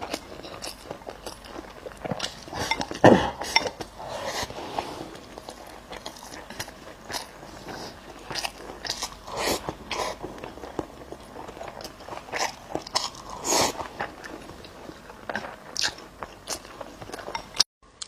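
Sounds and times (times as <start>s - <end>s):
person chewing crunchy food: 0.0s - 18.0s.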